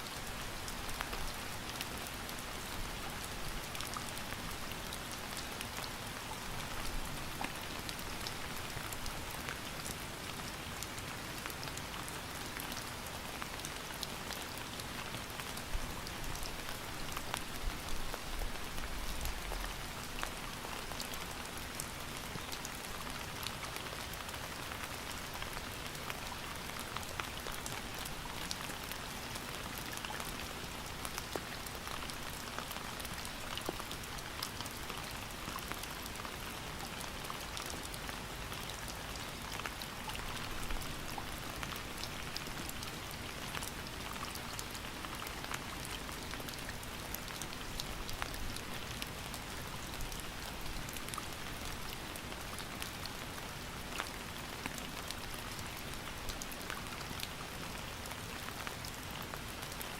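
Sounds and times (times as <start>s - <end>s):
raindrops ticking on a surface: 0.0s - 59.9s
steady rain hiss: 0.0s - 59.9s.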